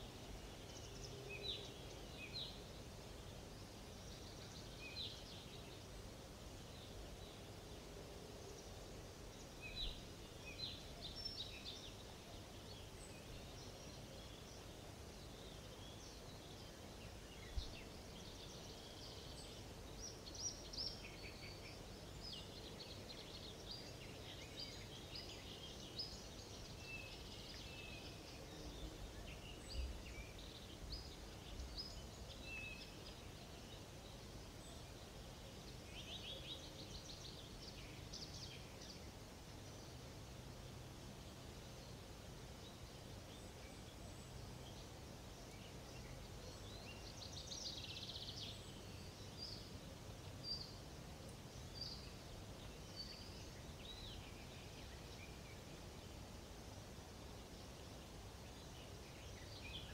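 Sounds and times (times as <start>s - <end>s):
faint steady hiss: 0.0s - 59.9s
songbirds chirping and trilling: 0.0s - 59.9s.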